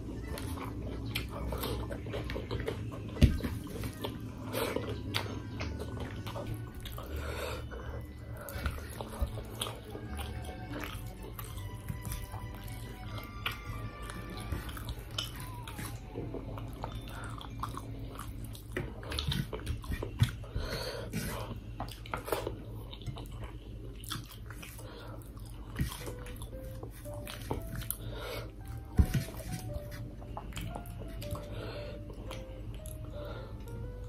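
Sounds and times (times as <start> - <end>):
faint background music: 0.0 - 34.0
person chewing and smacking: 0.0 - 34.0.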